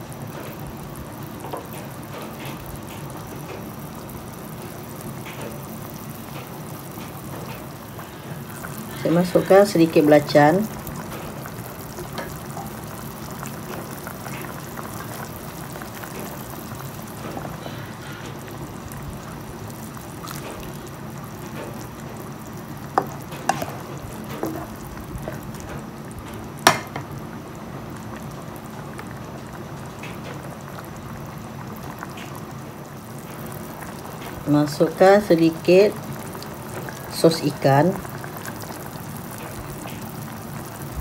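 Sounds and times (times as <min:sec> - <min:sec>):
soup bubbling: 0:00.1 - 0:41.0.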